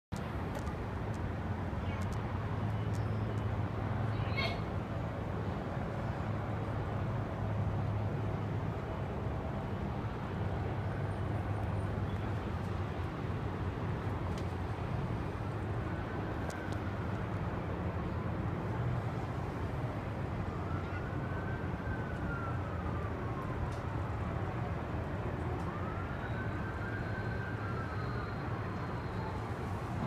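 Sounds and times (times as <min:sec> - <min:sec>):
faint siren wailing: 0:01.8 - 0:30.0.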